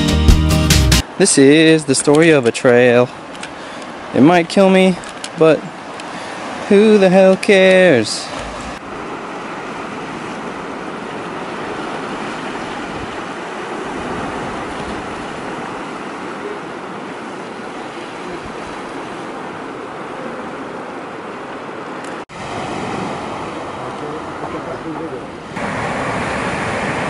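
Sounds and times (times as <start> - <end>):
surf washing against shore: 1.0 - 27.0.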